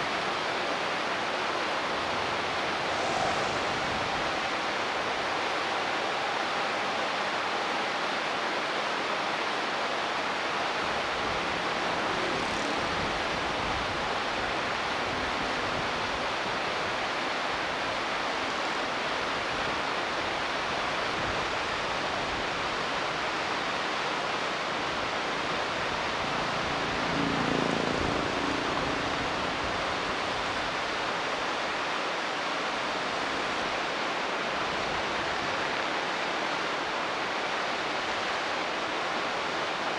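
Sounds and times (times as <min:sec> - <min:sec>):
river rushing over riffles: 0:00.0 - 0:39.9.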